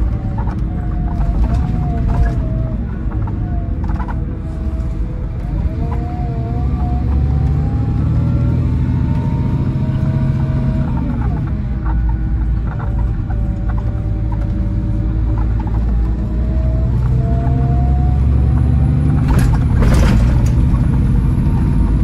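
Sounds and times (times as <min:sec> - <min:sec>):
low diesel engine rumble: 0:00.0 - 0:22.0
whining tone: 0:00.0 - 0:22.0.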